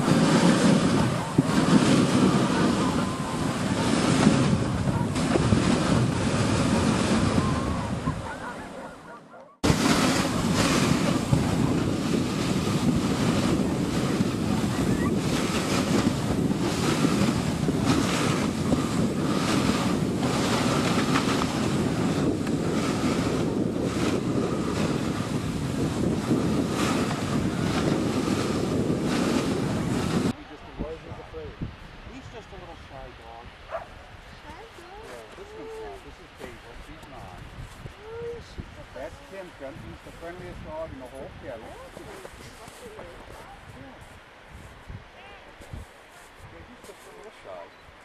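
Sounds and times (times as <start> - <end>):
wind noise on microphone: 0.0 - 48.0.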